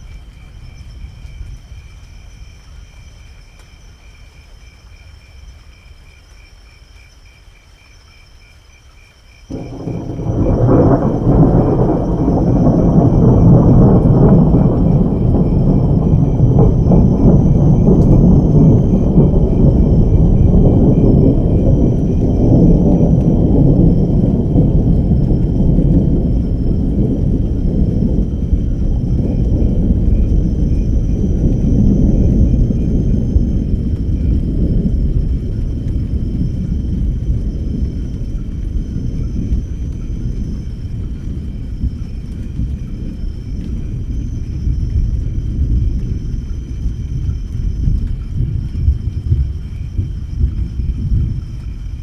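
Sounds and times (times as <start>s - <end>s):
thunder rumbling: 9.4s - 52.0s
thunderclap: 9.4s - 52.0s.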